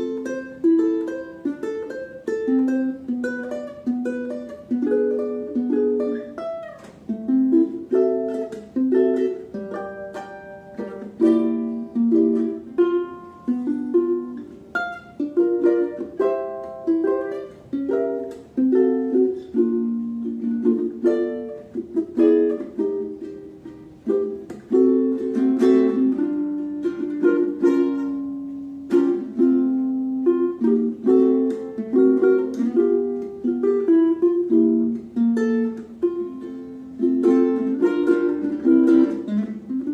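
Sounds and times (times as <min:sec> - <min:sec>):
ukulele fingerstyle melody: 0:00.0 - 0:39.9.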